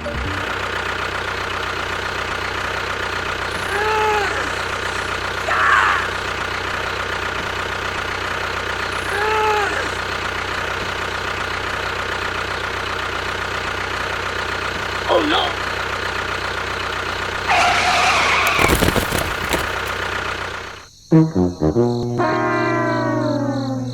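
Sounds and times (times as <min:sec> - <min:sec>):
steady engine-like hum: 0:00.0 - 0:19.2.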